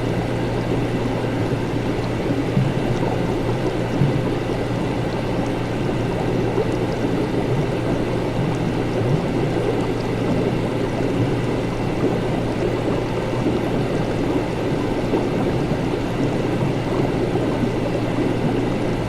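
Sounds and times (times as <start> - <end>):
liquid bubbling and gurgling: 0.0 - 19.0.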